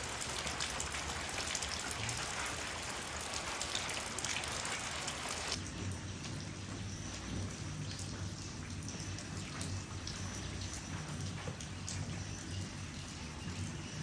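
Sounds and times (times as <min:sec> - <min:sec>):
rain falling on plants: 0:00.0 - 0:14.0.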